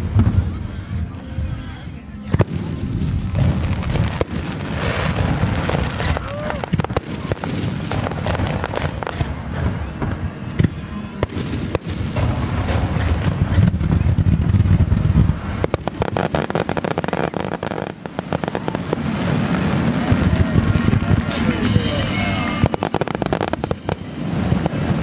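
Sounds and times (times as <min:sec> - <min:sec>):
fireworks booming: 0:00.0 - 0:25.0
fireworks crackling: 0:00.0 - 0:25.0.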